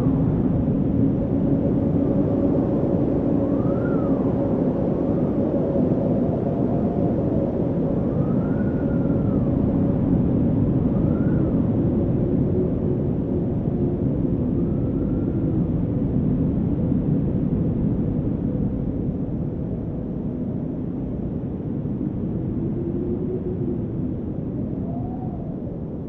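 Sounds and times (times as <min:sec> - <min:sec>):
wind blowing with whistling: 0:00.0 - 0:26.0.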